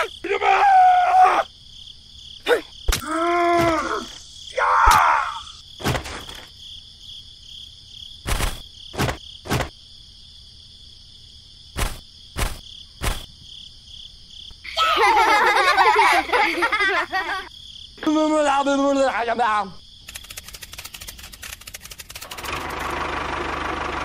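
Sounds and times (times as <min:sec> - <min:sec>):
crickets chirring: 0:00.0 - 0:22.6.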